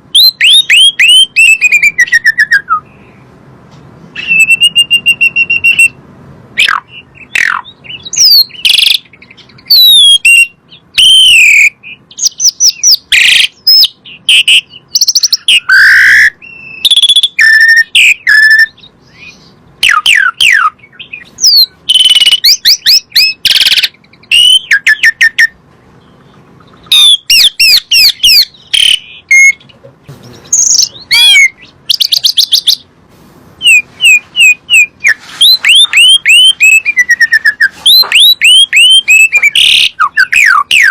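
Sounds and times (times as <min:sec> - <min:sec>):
starling singing: 0:00.0 - 0:03.4, 0:04.1 - 0:06.0, 0:06.6 - 0:33.0, 0:33.6 - 0:40.9.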